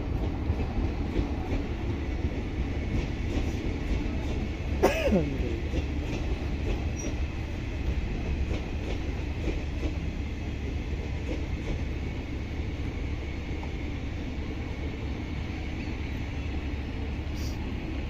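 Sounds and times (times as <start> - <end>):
train coaches rumbling past: 0.0 - 18.0.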